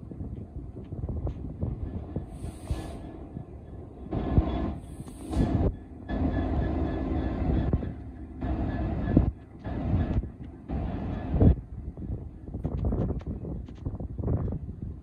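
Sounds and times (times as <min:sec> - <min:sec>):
locomotive engine rumble: 0:00.0 - 0:15.0.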